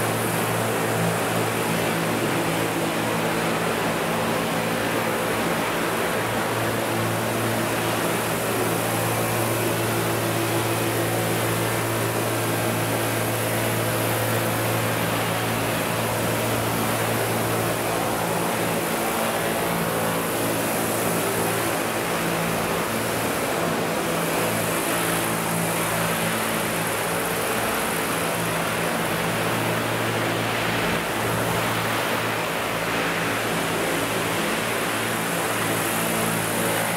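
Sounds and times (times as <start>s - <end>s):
model helicopter rotors droning: 0.0s - 36.9s.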